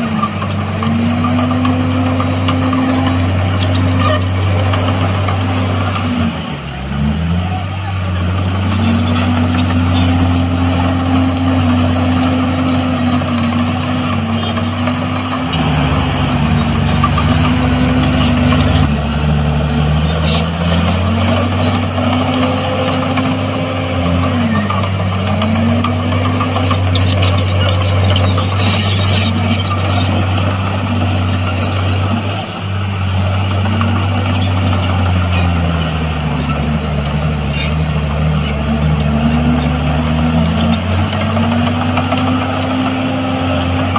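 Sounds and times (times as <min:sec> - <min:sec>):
heavy machinery diesel engine running: 0:00.0 - 0:43.9.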